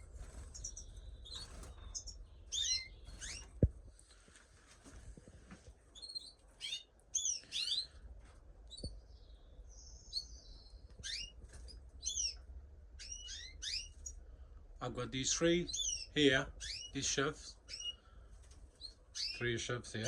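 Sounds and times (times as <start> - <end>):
canaries chirping: 0.0 - 4.1, 5.9 - 20.0.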